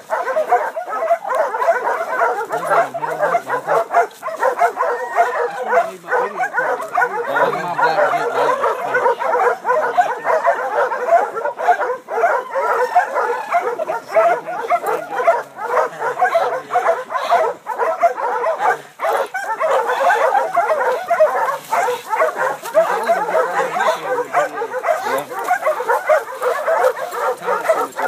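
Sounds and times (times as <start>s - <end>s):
dogs barking and yipping: 0.0s - 28.0s.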